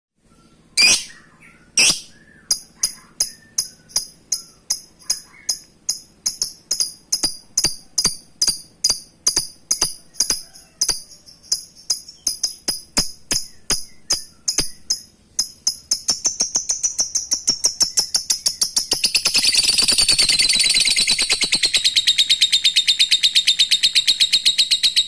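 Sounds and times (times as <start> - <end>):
high bird chirps: 0.2 - 25.0.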